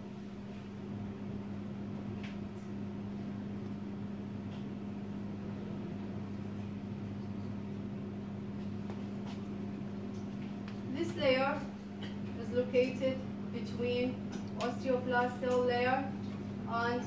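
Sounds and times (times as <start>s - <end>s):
faint fan noise: 0.0s - 17.0s
low electrical hum: 0.0s - 17.0s.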